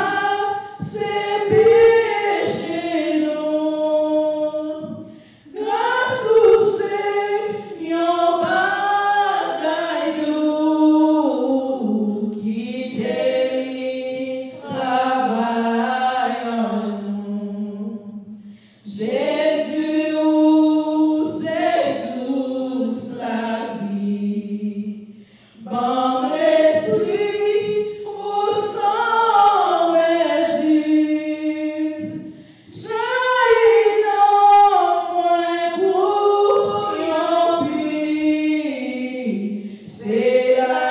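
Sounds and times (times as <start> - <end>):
woman singing unaccompanied: 0.0 - 18.1, 18.8 - 25.0, 25.6 - 40.9.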